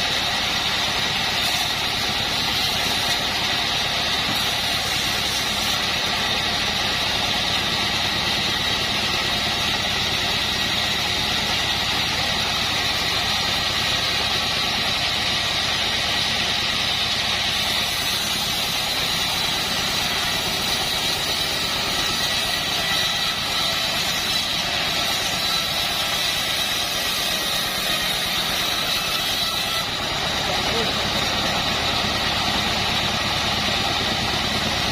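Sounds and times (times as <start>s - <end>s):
band sawmill running: 0.0s - 34.9s
high steady machine whine: 0.0s - 34.9s.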